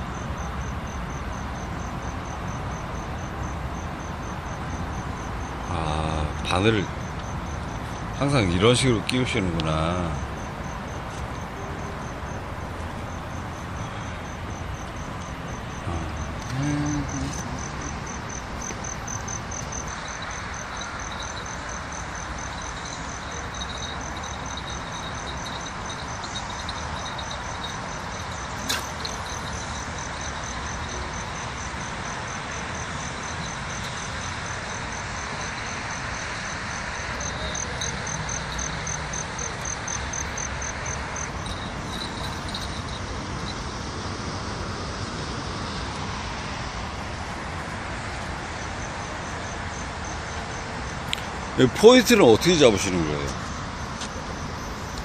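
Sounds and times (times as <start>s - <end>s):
background hum: 0.0s - 35.8s, 36.4s - 51.8s
lower-pitched insect chirping: 0.0s - 45.9s, 48.1s - 55.0s
crickets chirping: 0.0s - 55.0s.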